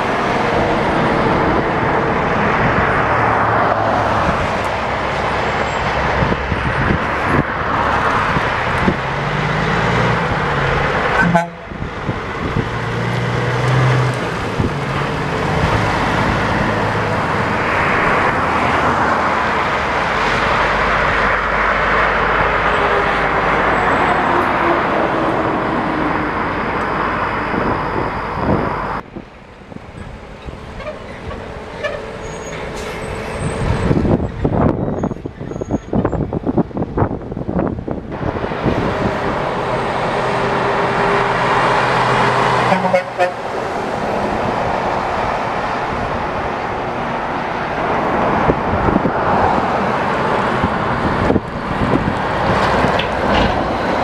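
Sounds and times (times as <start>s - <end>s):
diesel trucks driving: 0.0s - 54.0s
tyre and traffic noise: 0.0s - 54.0s.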